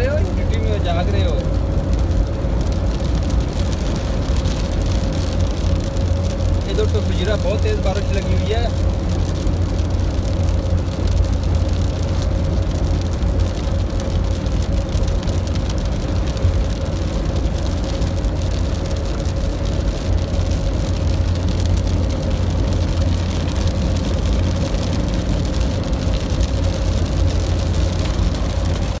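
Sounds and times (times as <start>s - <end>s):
deep low rumble: 0.0s - 29.0s
heavy rain pouring: 0.0s - 29.0s.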